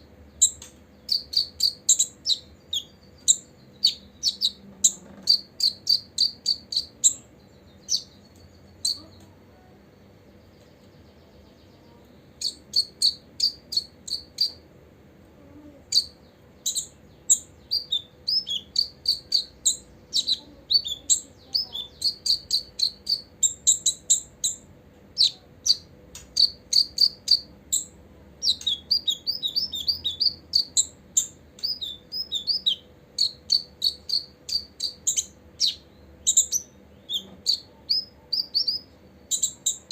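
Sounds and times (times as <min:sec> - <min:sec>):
bird chirping high and sharp: 0:00.4 - 0:09.1, 0:12.4 - 0:14.6, 0:15.9 - 0:39.9.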